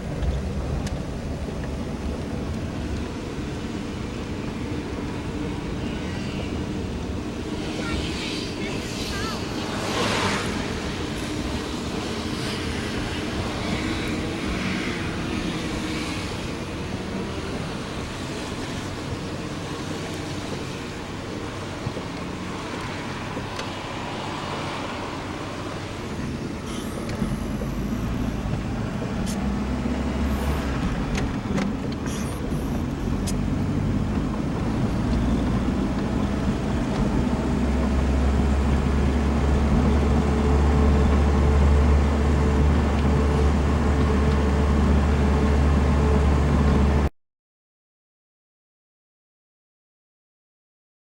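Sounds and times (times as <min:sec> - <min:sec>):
car engine and road noise: 0:00.0 - 0:47.1.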